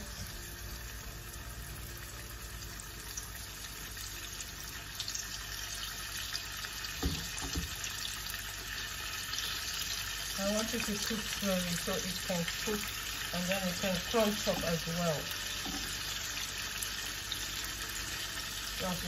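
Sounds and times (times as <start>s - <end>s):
fish frying in hot oil: 0.0s - 19.0s.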